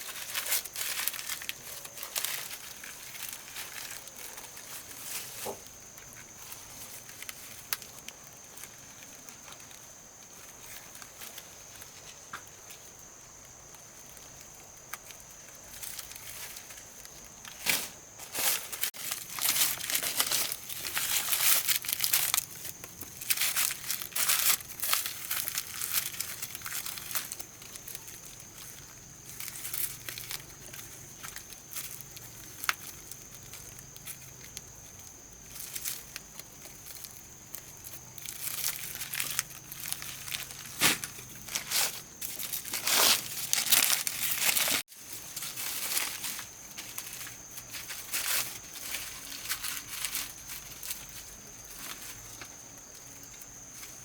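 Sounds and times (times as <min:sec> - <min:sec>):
crinkling and rustling: 0:00.0 - 0:54.0.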